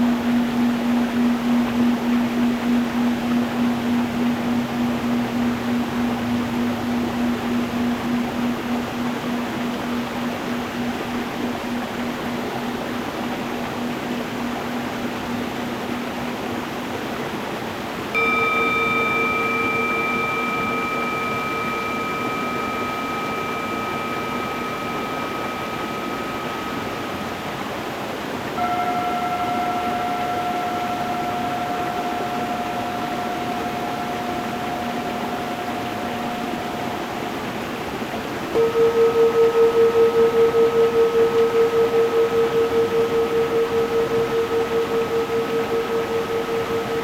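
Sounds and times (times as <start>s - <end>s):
singing bowl ringing: 0.0s - 17.2s, 18.1s - 47.0s.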